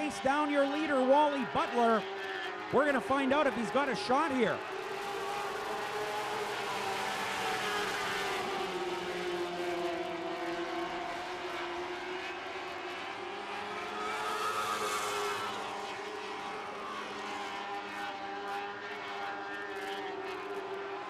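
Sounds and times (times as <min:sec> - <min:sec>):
race car engines: 0:00.0 - 0:21.0.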